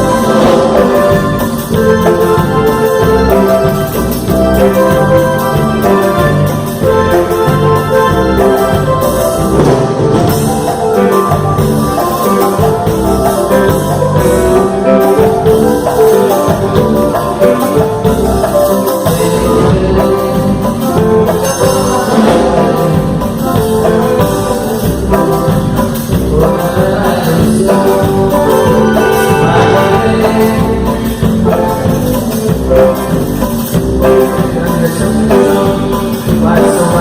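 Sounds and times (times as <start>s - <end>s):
live band playing: 0.0s - 37.0s.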